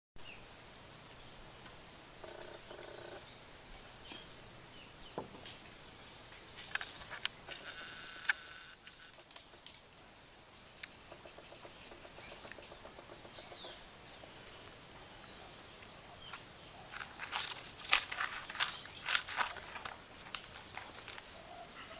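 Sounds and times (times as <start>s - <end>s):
outdoor background hiss: 0.2s - 21.9s
small birds chirping: 0.2s - 21.9s.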